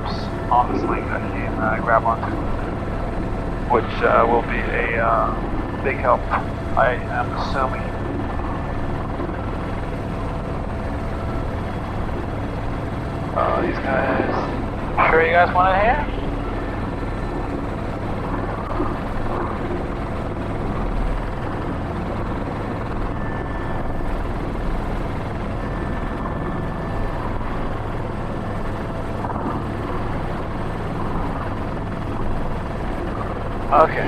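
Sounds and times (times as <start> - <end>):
helicopter turbine and rotor: 0.0 - 34.0.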